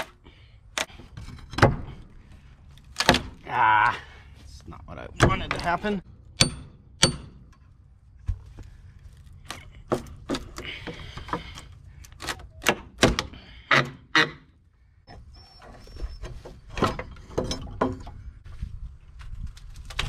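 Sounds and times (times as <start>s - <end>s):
wood creaking: 0.0s - 18.4s.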